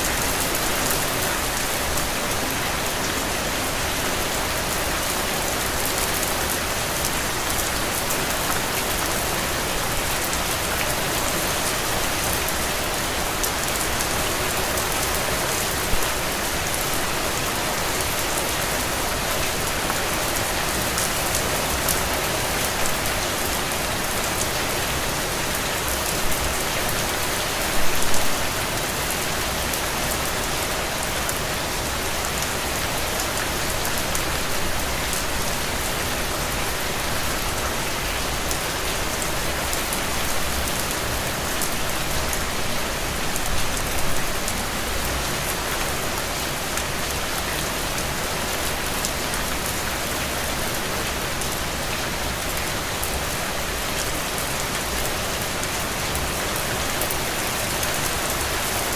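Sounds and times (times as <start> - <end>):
heavy rain on soil and puddles: 0.0 - 58.9.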